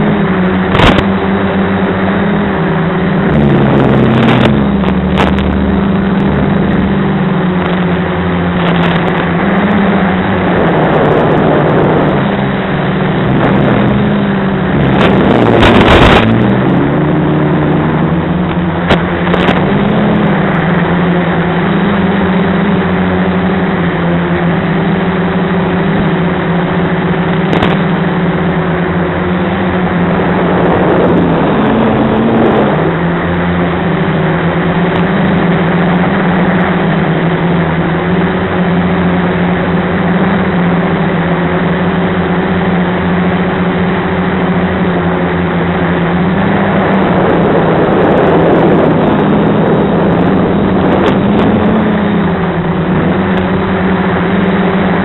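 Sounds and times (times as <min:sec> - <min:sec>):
quadcopter motors humming: 0:00.0 - 0:55.0.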